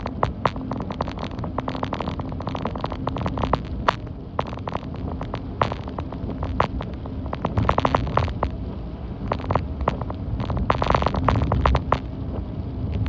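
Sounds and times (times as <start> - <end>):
sharp ticks and clicks: 0.0 - 8.6, 9.2 - 12.1
wind rumbling on microphone: 0.0 - 13.0.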